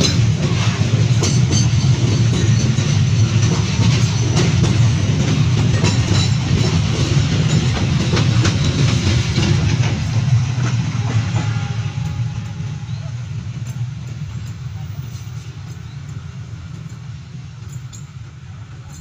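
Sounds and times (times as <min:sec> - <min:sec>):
rail clicks and clacks: 0:00.0 - 0:19.0
train wheels rumbling on rails: 0:00.0 - 0:19.0.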